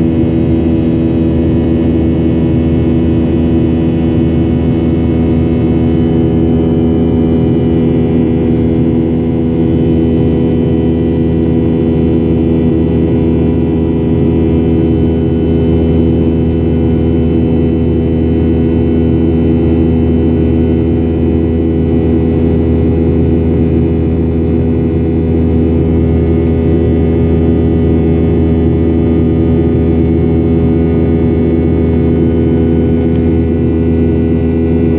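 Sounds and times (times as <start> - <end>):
jet engines droning in cabin: 0.0 - 34.9.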